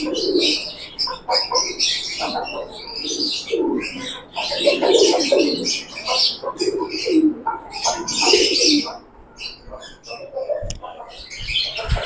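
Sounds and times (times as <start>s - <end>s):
pigeons cooing: 0.0s - 12.0s
small birds chirping: 0.0s - 12.0s.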